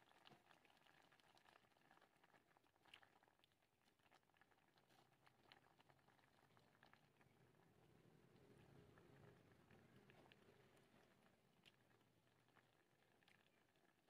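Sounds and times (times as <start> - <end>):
water boiling in a pot: 0.0 - 14.0.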